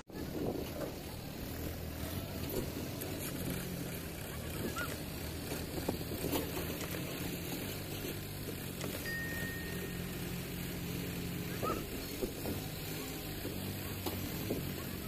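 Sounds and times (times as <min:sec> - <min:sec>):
diesel tractor engine running: 0:00.1 - 0:15.0.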